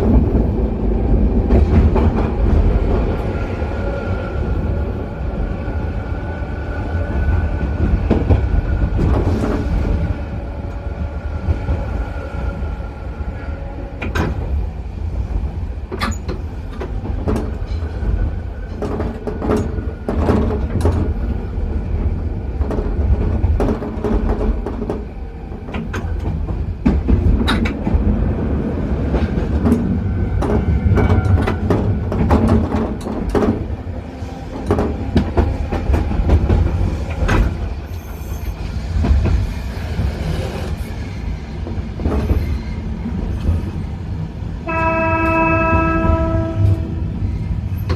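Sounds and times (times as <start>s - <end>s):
railcar motors and wheels rumbling: 0.0s - 47.9s.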